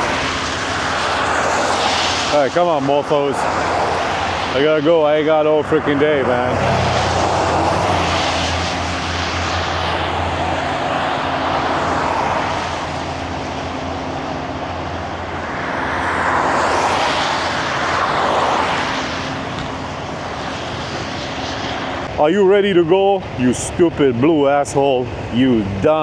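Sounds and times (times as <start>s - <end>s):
rushing noise: 0.0s - 26.0s.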